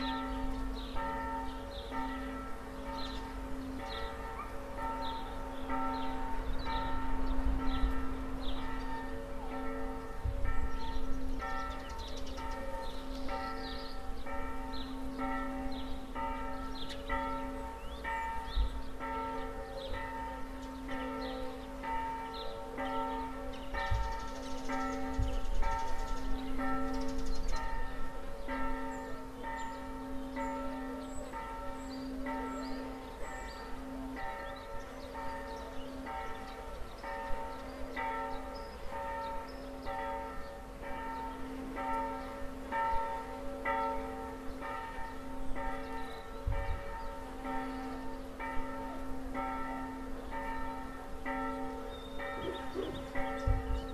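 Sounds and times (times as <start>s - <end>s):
church bell ringing: 0.0s - 53.9s.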